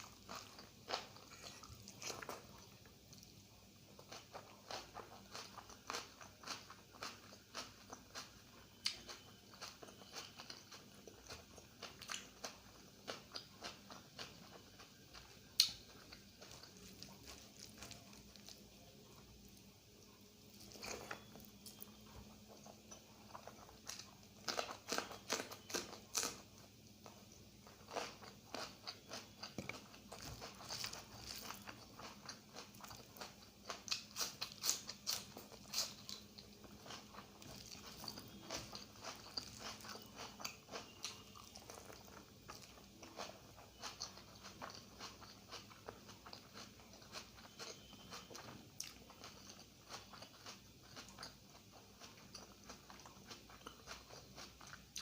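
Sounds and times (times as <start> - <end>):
wet chewing and smacking: 0.0 - 3.3, 3.9 - 19.3, 20.0 - 55.0.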